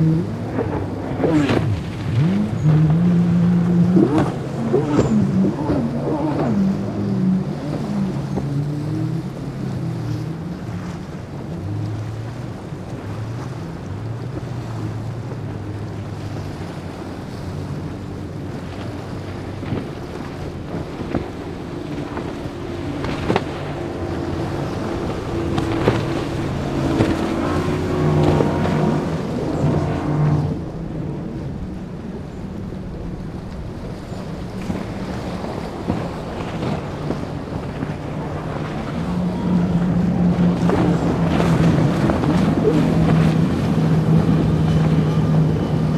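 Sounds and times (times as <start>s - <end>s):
powerboat engines running: 0.0s - 45.9s
waves and spray: 0.0s - 45.9s.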